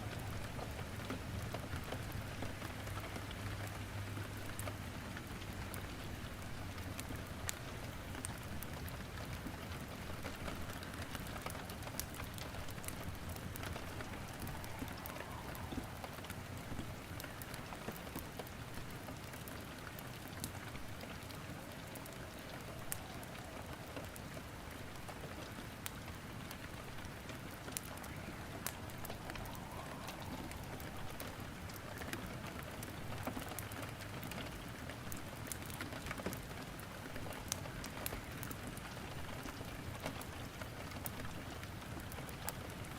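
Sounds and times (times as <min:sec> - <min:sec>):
steady rain: 0:00.0 - 0:42.9
wood crackling in fireplace: 0:00.0 - 0:42.9.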